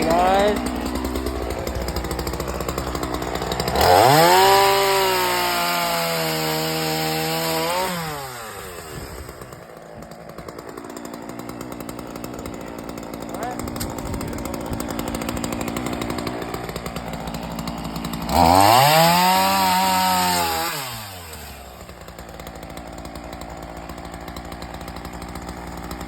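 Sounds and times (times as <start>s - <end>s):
chainsaw idling and revving: 0.0s - 26.0s.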